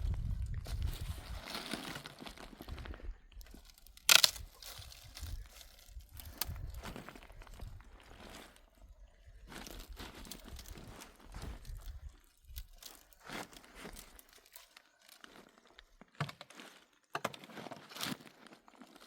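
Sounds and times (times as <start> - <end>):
rustling and crunching: 0.0 - 19.0.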